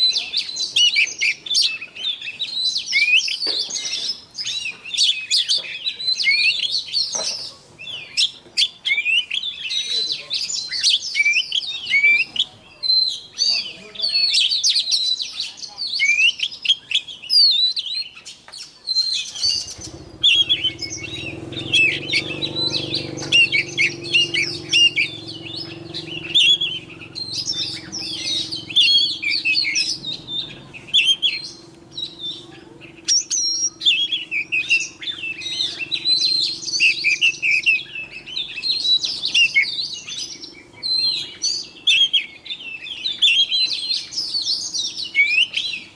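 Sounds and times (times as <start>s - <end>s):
bird singing whistles: 0.0s - 45.9s.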